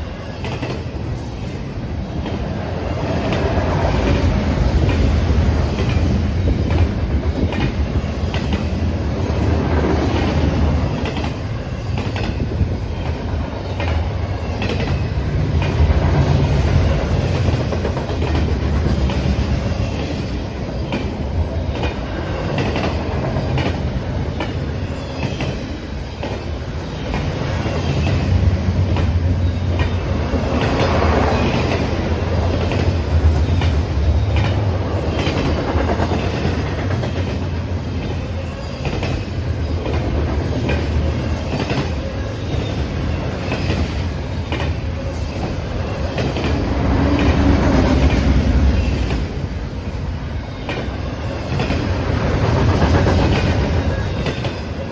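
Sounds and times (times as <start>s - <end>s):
train cars rumbling past: 0.0s - 54.9s
wheels clacking over rail joints: 0.2s - 49.5s.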